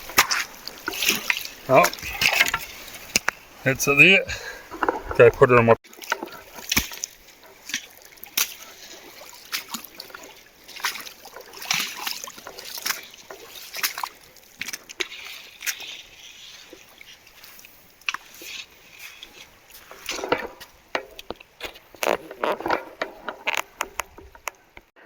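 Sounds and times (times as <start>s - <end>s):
wading through stony river: 0.0s - 25.0s.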